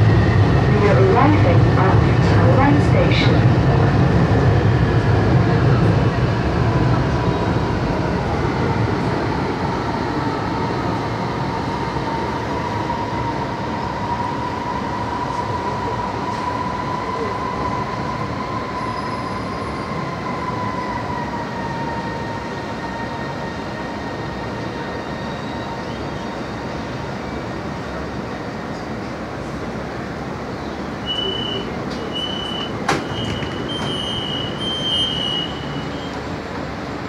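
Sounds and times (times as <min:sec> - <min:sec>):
subway train rumbling with whine: 0:00.0 - 0:37.0.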